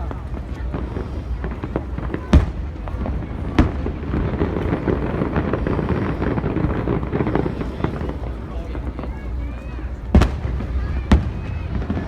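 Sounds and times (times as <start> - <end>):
firework bang: 0.0 - 8.8, 10.1 - 12.0
fireworks crackling pops: 0.0 - 12.0.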